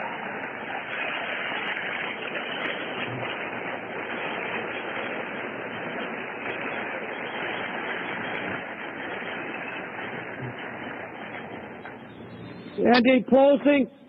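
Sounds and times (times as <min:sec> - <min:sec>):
recording hiss: 0:00.0 - 0:14.0.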